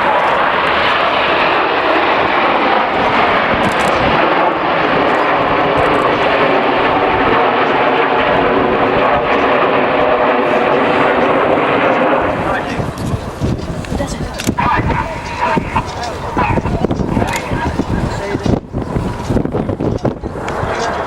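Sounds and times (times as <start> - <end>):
jet engine rush: 0.0 - 21.0.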